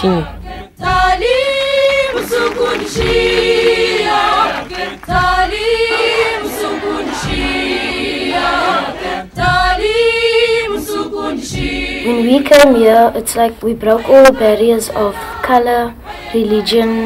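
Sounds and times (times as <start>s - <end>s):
crowd singing in chorus: 0.0s - 13.1s, 13.8s - 17.0s.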